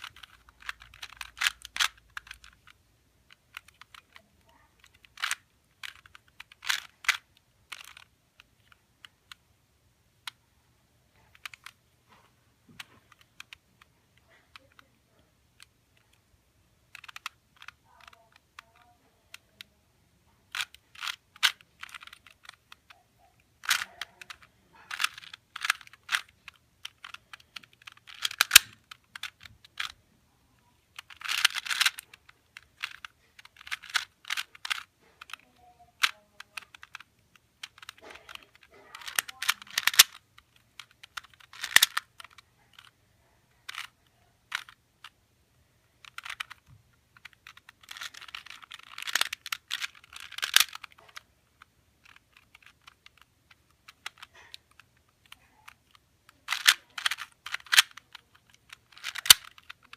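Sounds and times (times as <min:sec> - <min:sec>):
plastic puzzle cube clicking: 0:00.0 - 0:09.5, 0:10.2 - 0:10.4, 0:11.1 - 0:11.9, 0:12.8 - 0:19.8, 0:20.4 - 0:45.2, 0:45.8 - 0:59.9.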